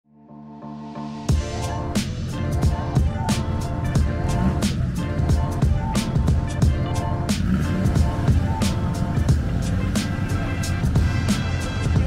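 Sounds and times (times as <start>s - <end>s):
sustained synth chords: 0.2s - 12.0s
steady drum beat: 1.3s - 12.0s.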